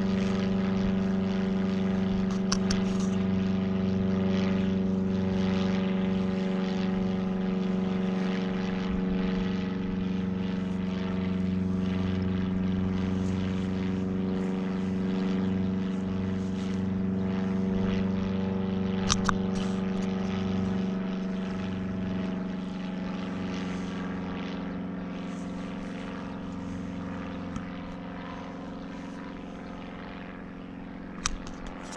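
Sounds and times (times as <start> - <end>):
propeller aircraft droning: 0.0 - 31.9.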